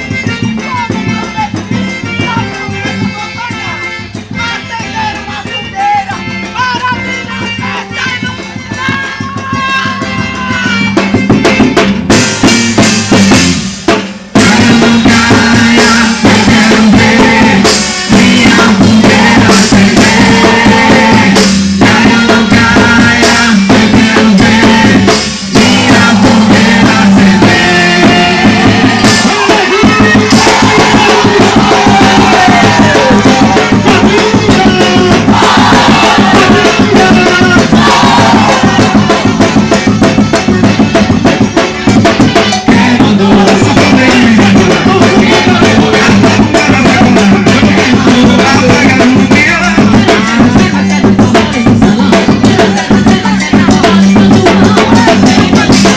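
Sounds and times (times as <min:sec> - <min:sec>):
loud music with drum beat: 0:00.0 - 0:55.9.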